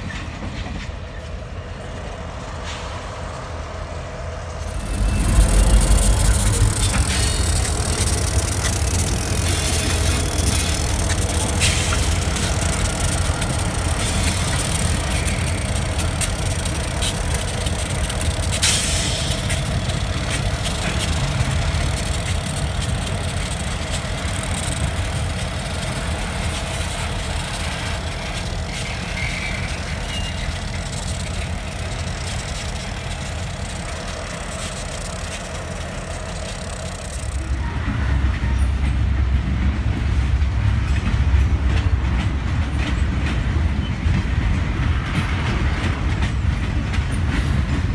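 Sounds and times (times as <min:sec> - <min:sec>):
boxcars rumbling by: 0:00.0 - 0:47.9
freight train moving off: 0:00.0 - 0:47.9.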